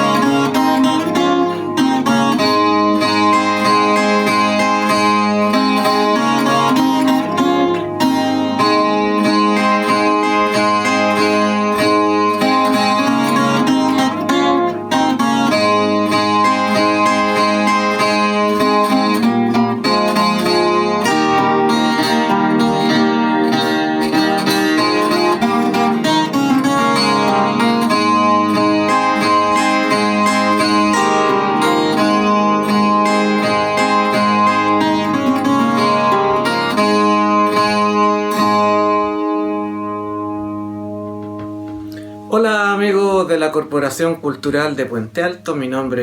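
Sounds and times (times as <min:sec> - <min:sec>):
plucked string instrument melody: 0:00.0 - 0:46.0.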